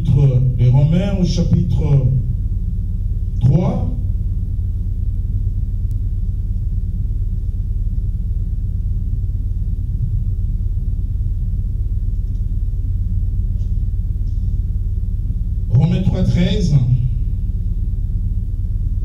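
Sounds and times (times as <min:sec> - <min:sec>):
low hum and rumble: 0:00.0 - 0:19.0.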